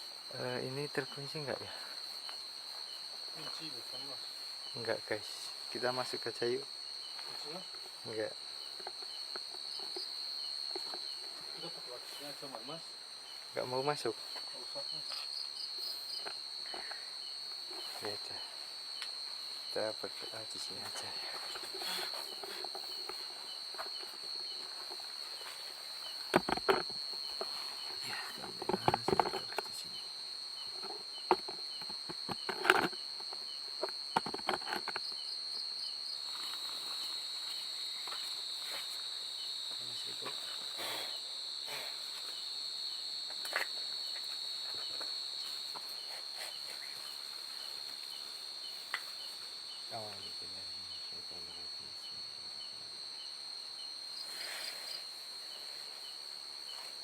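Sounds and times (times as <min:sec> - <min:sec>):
crickets trilling: 0:00.0 - 0:57.0
insect chirping: 0:00.0 - 0:57.0.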